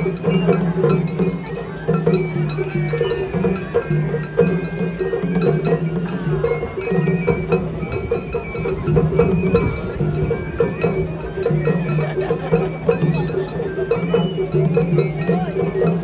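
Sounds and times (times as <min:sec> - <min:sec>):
festival float music: 0:00.0 - 0:16.0.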